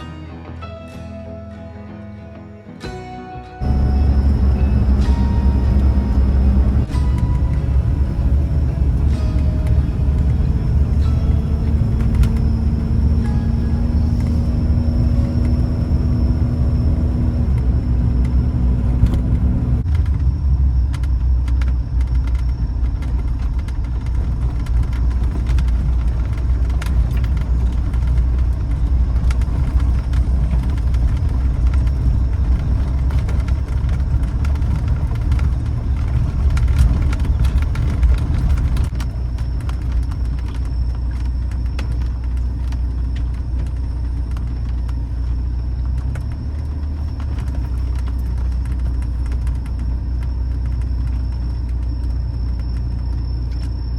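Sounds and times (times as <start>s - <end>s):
car engine and road rumble: 3.6s - 53.9s.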